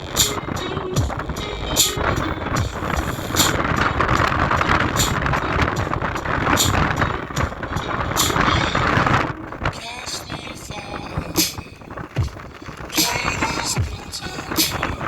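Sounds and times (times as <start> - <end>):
bass-heavy music from speaker: 0.0 - 15.0.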